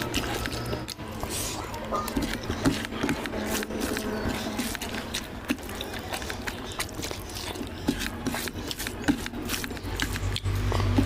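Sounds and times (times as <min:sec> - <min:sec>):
hand squishing rice on plate: 0:00.0 - 0:11.0
wet chewing and lip smacks: 0:00.0 - 0:11.0.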